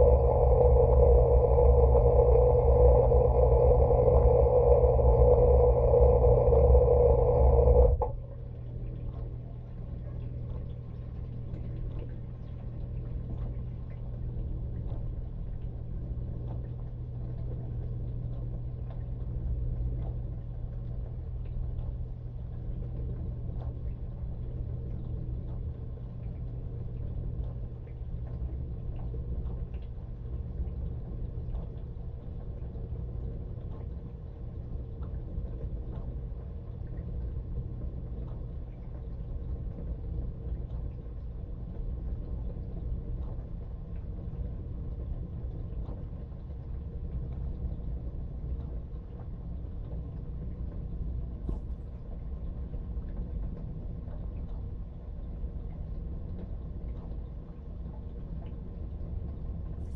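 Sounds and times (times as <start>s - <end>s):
dishwasher pump hum: 0.0s - 59.9s.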